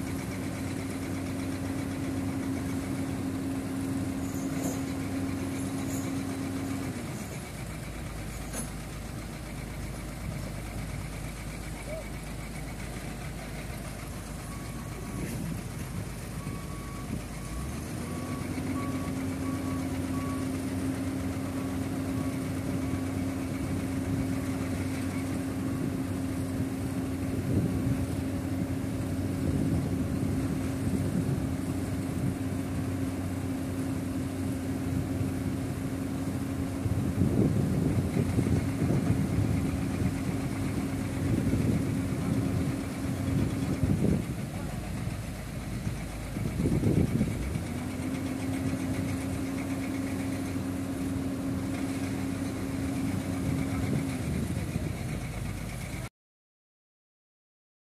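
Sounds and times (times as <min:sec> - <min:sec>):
excavator diesel engine running: 0:00.0 - 0:56.1.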